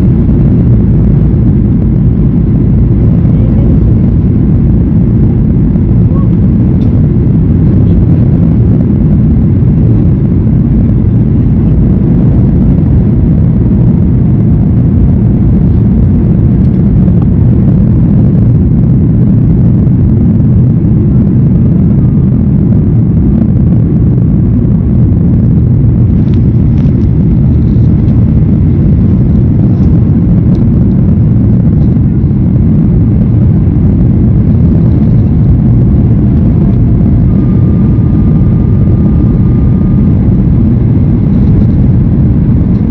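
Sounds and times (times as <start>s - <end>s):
jet engines rumbling in cabin: 0.0s - 42.9s.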